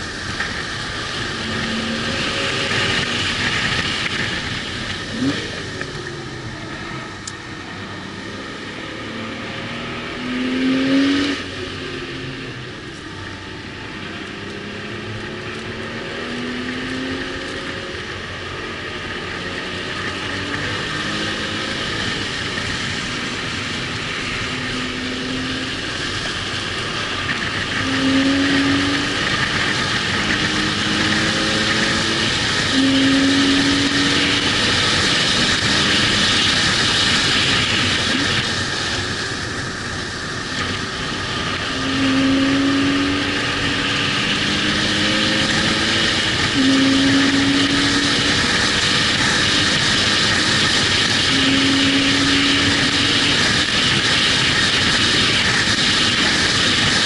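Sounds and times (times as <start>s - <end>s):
race car engine: 0.0s - 57.0s
wind noise: 0.0s - 57.0s.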